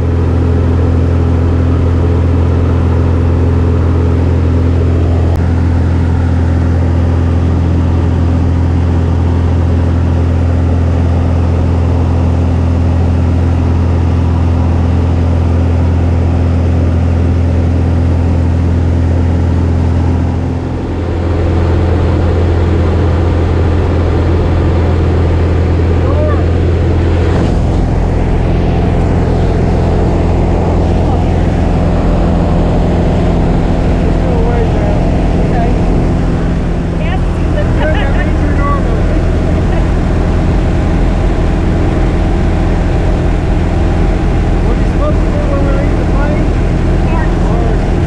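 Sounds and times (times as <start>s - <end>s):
light aircraft engine droning: 0.0s - 48.0s.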